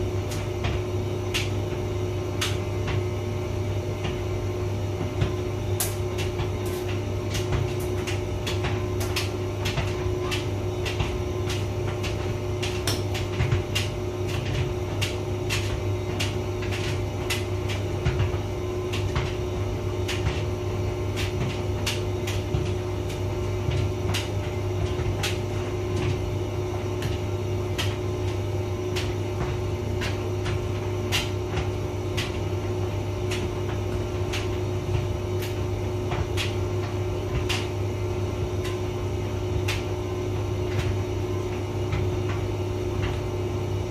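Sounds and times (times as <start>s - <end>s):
tumble dryer motor hum: 0.0s - 43.9s.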